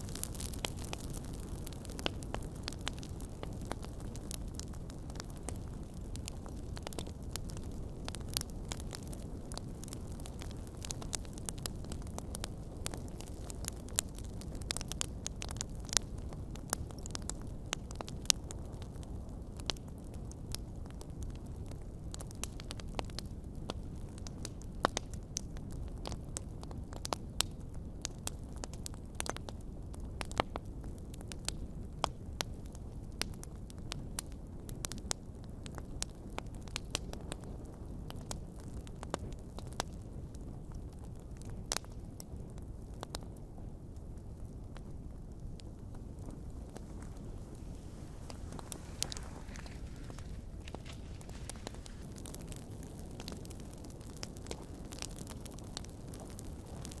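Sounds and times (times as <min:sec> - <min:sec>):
fire crackles and pops: 0:00.0 - 0:57.0
fire rumbling in fireplace: 0:00.0 - 0:57.0.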